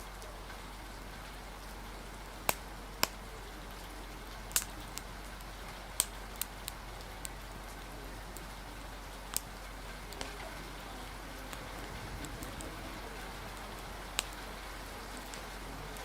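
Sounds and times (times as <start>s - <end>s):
steady rain hiss: 0.0s - 16.0s
wood fire crackling: 0.0s - 16.0s.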